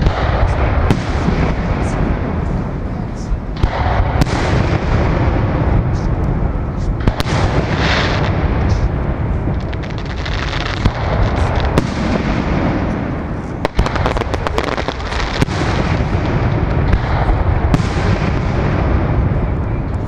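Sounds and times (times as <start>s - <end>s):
firework crackling: 0.0s - 20.0s
low rumble: 0.0s - 20.0s.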